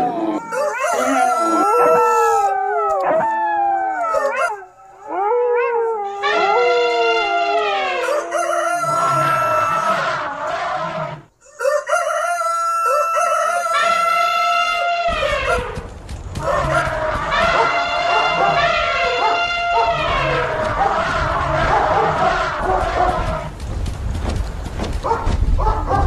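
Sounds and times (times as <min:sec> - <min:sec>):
animal howls and cries: 0:00.0 - 0:23.6.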